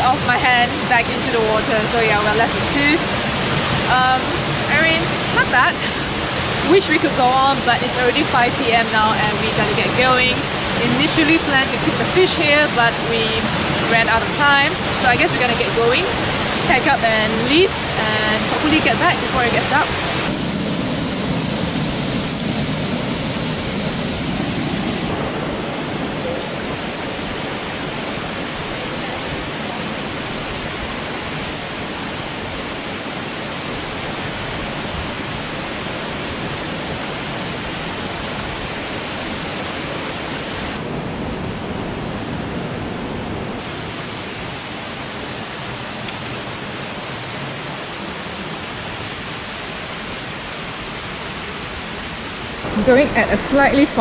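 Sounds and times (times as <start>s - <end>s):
river and waterfall rushing: 0.0s - 54.0s.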